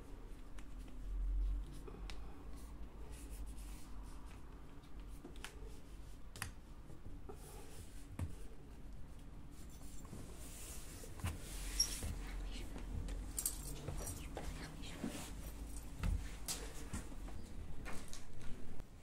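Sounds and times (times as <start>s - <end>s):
hands rubbing along a cord: 0.0s - 17.4s.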